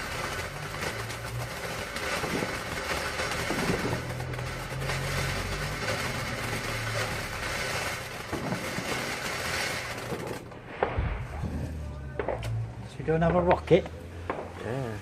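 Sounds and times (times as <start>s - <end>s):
firework hissing: 0.0s - 12.8s.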